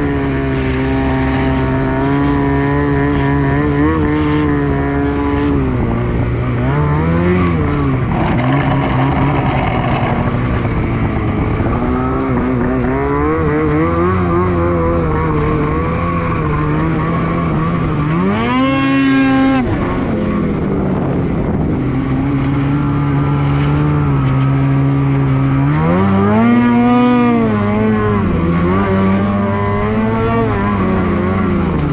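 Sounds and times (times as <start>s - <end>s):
snowmobile engine revving: 0.0s - 31.9s.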